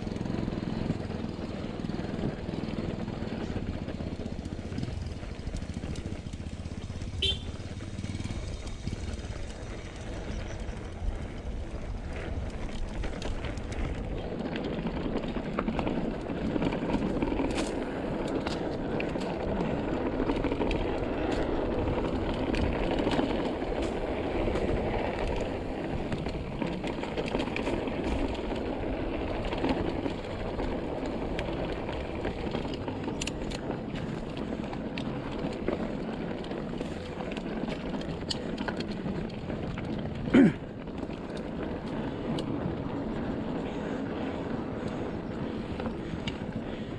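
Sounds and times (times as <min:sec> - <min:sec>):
bike tyres rumbling on dirt: 0:00.0 - 0:46.9
small clicks from bike: 0:00.0 - 0:46.9.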